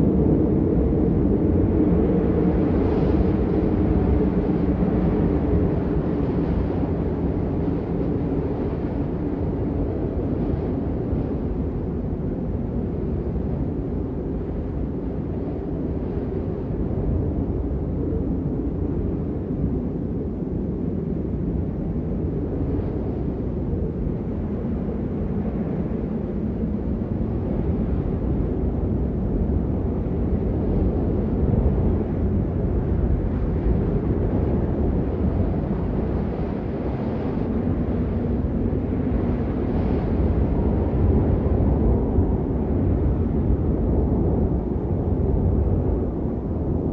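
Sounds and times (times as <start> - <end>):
blizzard wind blowing hard: 0.0 - 46.9.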